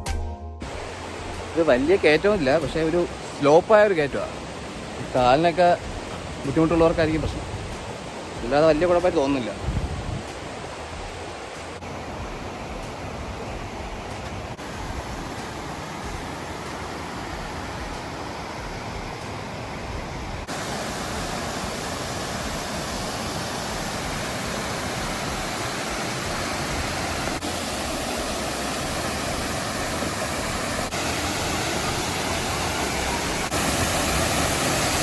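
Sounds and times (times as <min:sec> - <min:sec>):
waterfall rushing water: 0:00.6 - 0:09.8, 0:10.4 - 0:35.0.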